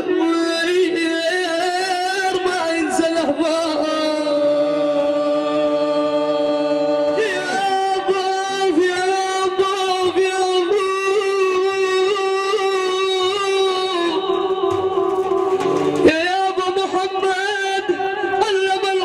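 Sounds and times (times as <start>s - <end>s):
man chanting devotional singing: 0.0s - 19.0s.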